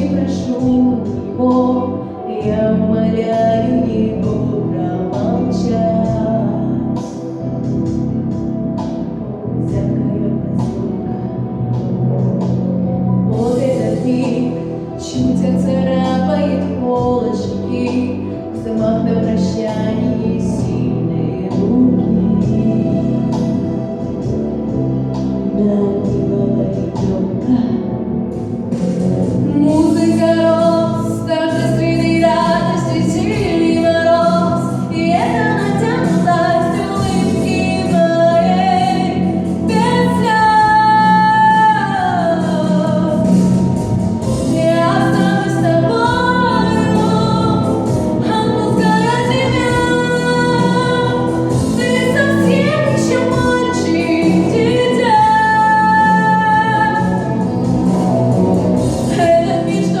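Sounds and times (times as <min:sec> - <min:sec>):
musical accompaniment: 0:00.0 - 1:00.0.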